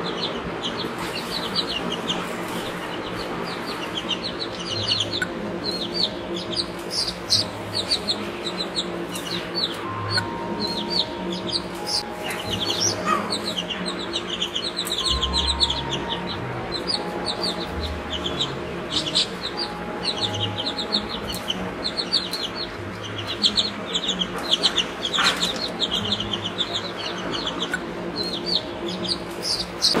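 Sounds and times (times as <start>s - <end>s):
baby chicks peeping: 0.0s - 30.0s.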